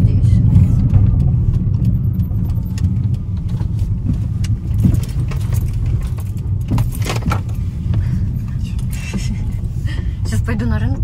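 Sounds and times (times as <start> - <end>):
light clicks and rattles in cabin: 0.0 - 11.0
low engine and road rumble: 0.0 - 11.0.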